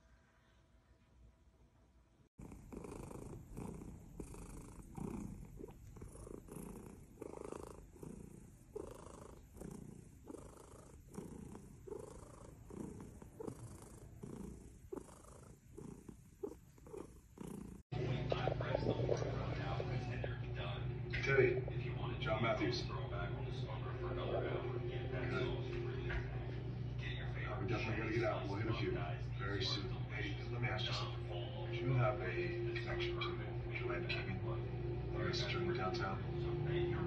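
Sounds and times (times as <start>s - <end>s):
cat purring: 2.4s - 37.0s.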